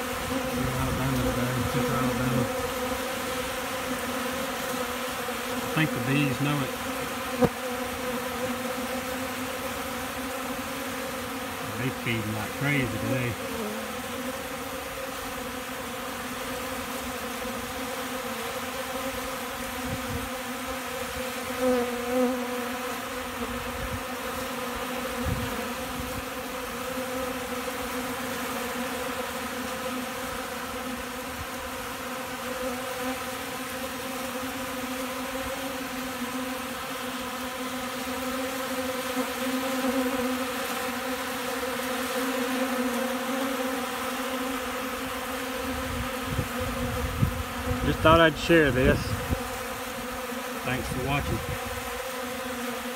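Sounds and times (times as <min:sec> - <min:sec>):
honeybees buzzing: 0:00.0 - 0:52.9.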